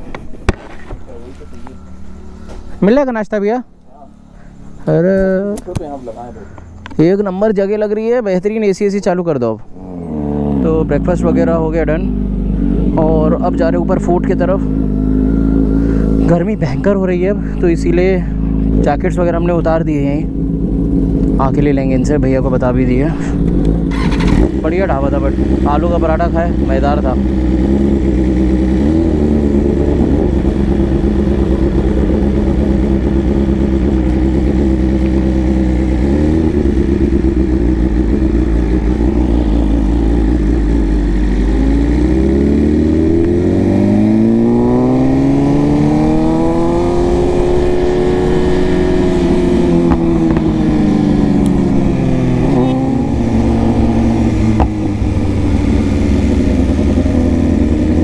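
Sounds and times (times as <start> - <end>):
motorcycle engine revving: 0.5 - 8.1, 9.6 - 58.0.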